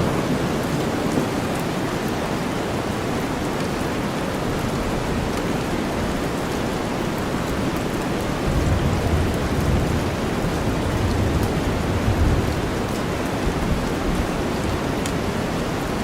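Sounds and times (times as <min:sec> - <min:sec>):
steady rainfall: 0:00.0 - 0:16.0.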